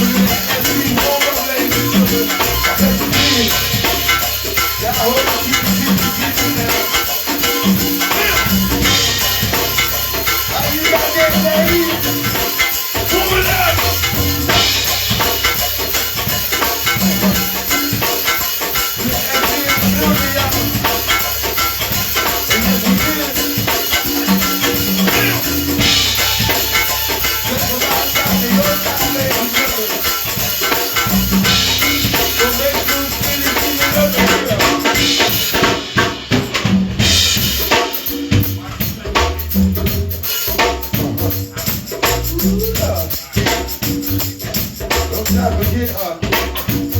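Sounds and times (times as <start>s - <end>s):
rattling shaker: 0.0s - 35.7s, 37.0s - 46.9s
live band music: 0.0s - 46.9s.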